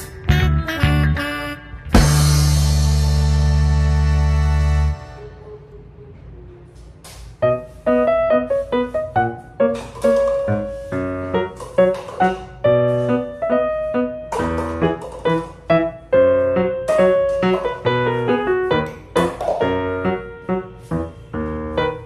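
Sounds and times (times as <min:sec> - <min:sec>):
lively piano melody: 0:00.0 - 0:05.3, 0:07.4 - 0:22.0.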